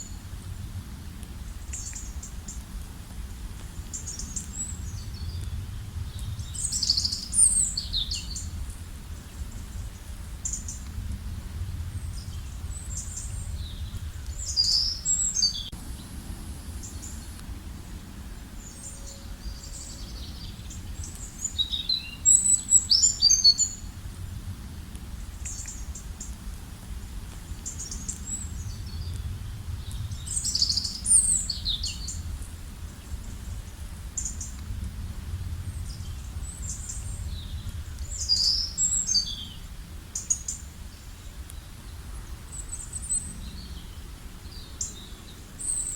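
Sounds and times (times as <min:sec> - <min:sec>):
songbirds chirping: 0:00.0 - 0:45.9
steady low rumble: 0:00.0 - 0:45.9.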